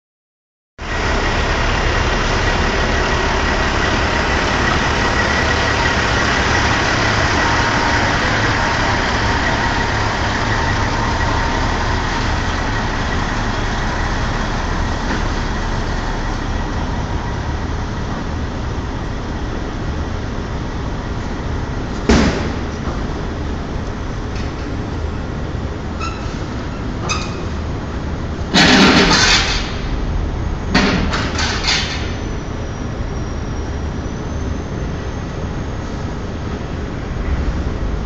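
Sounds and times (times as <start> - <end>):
diesel truck engines rumbling: 0.8 - 38.0.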